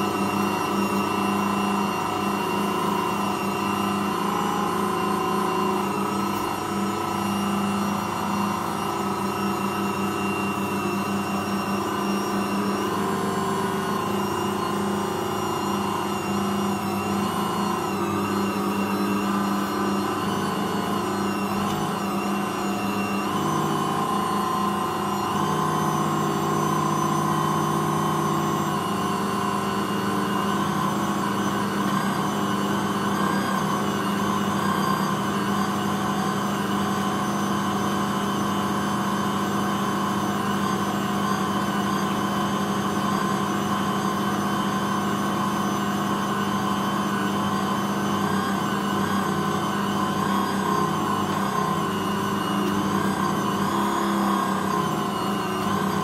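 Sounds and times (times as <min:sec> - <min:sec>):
stand mixer motor hum: 0:00.0 - 0:56.0.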